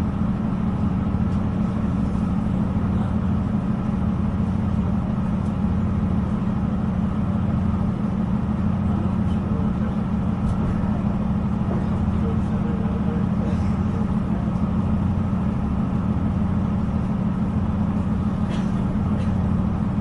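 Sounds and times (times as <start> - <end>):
diesel train engine droning: 0.0 - 20.0.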